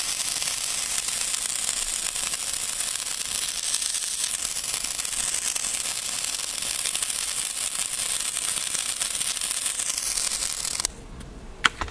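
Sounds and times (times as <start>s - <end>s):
sparkler hissing and crackling: 0.0s - 10.9s.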